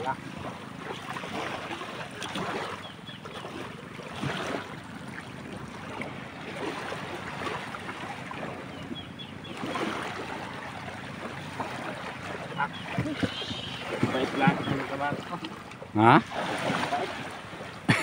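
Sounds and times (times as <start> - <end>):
small waves lapping: 0.0 - 18.0.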